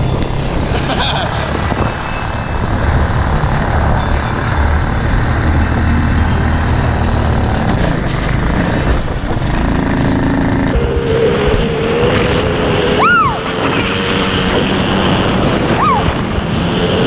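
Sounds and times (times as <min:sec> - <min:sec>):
go-kart engine running: 0:00.0 - 0:17.0
wind noise on microphone: 0:00.0 - 0:17.0.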